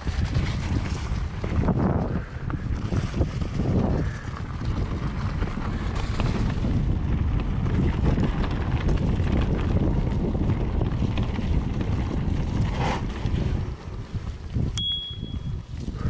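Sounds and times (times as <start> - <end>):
bike clicks and rattles: 0.0 - 16.0
bike tyres rolling on trail: 0.0 - 16.0
wind buffeting microphone: 0.0 - 16.0.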